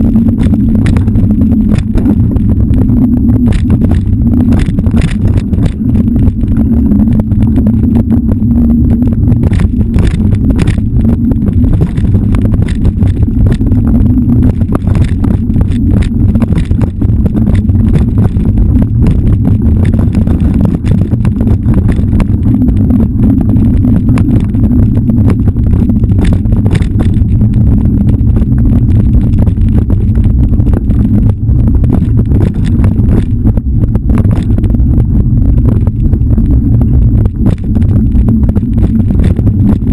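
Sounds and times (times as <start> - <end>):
vehicle ride rumble: 0.0 - 39.9.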